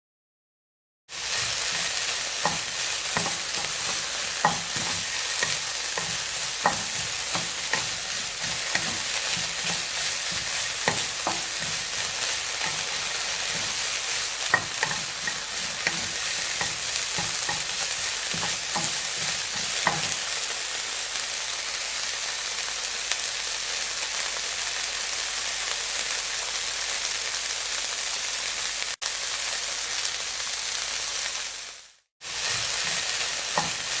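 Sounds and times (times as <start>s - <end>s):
meat sizzling in hot oil: 1.1s - 34.0s.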